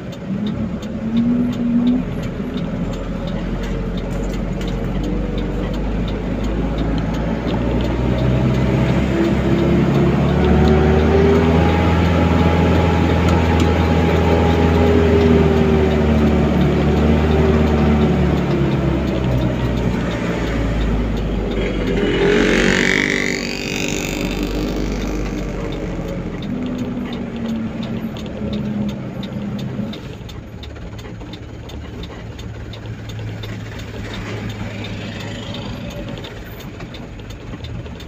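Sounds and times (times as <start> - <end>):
passing vehicles rushing by: 0.0 - 38.0
road noise: 0.0 - 38.0
vehicle engine running: 0.0 - 38.0.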